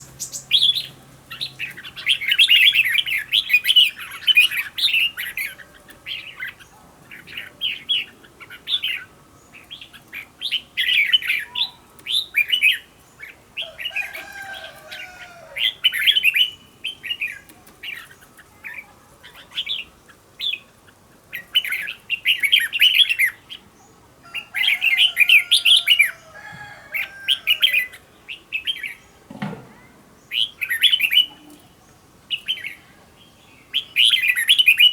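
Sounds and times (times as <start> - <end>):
bird singing: 0.0 - 20.7, 24.4 - 34.9.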